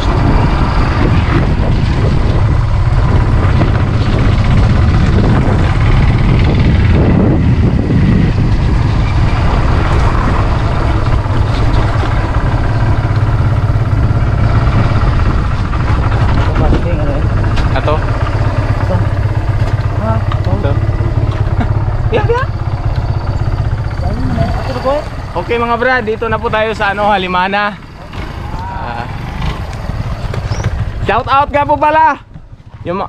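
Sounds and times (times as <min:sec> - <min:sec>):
wind rumble on microphone: 0:00.0 - 0:31.3
motorcycle engine running: 0:00.0 - 0:33.0.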